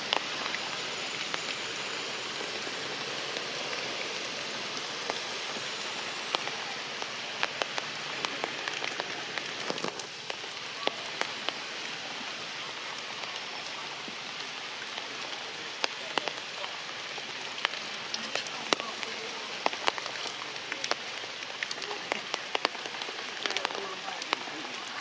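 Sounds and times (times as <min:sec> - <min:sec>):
heavy rain falling: 0:00.0 - 0:25.0
raindrops tapping close by: 0:00.0 - 0:25.0.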